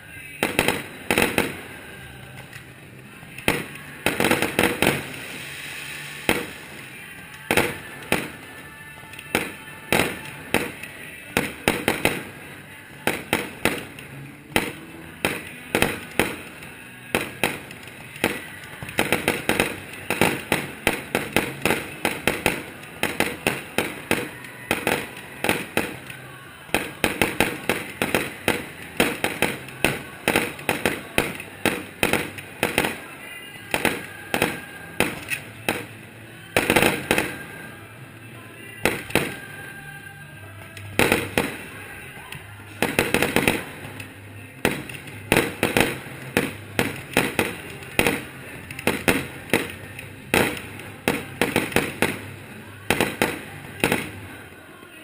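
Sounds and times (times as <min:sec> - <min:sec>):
firework shells bursting: 0:00.4 - 0:37.8, 0:40.6 - 0:54.5.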